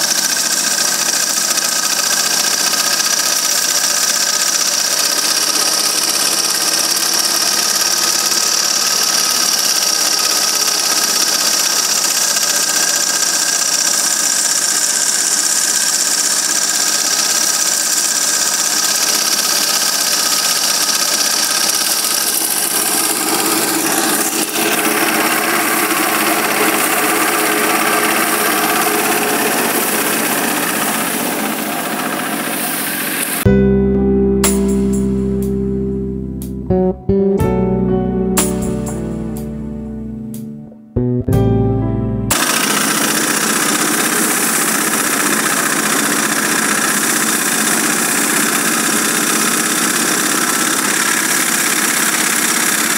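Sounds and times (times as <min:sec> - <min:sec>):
small engine running: 0:00.0 - 0:33.5, 0:42.3 - 0:52.9.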